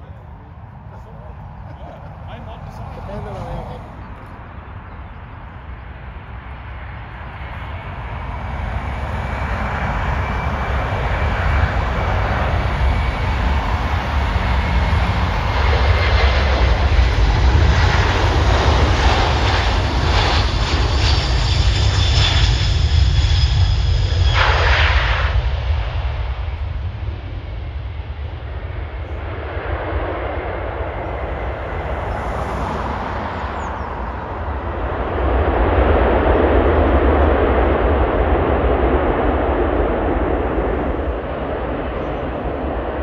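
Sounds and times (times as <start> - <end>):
jet turbofans whining and rumbling: 0.0 - 43.0.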